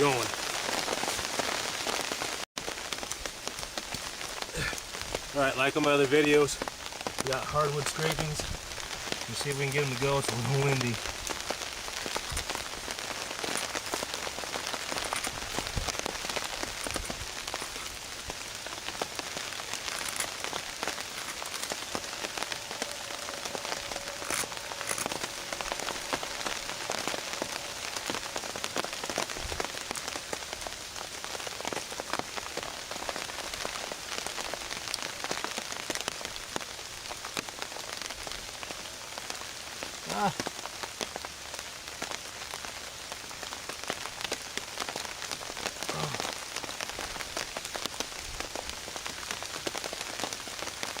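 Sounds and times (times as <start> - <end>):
rain pattering on a tarp: 0.0 - 51.0.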